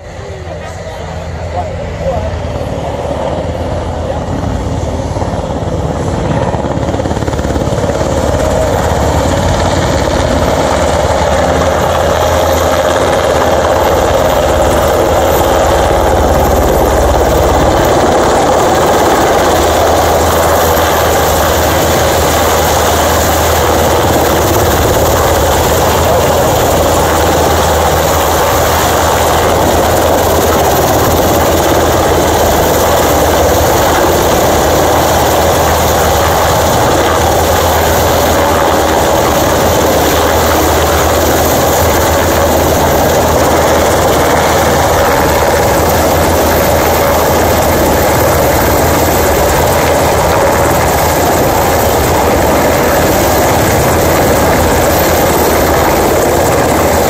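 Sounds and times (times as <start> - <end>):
helicopter rotor and turbine noise: 0.0 - 57.0
second helicopter flying close: 0.0 - 57.0.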